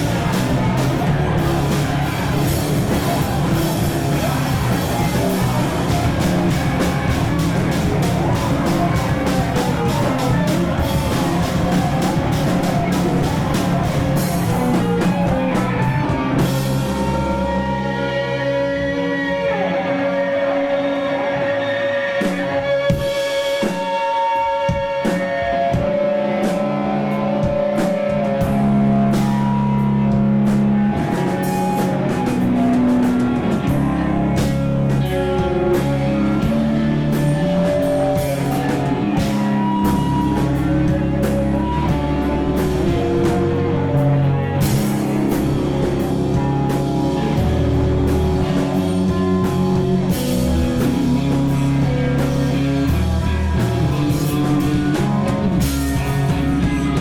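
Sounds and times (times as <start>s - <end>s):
drum kit beat: 0.0s - 19.3s, 22.2s - 57.0s
bass guitar: 0.0s - 57.0s
electric guitar: 0.0s - 57.0s.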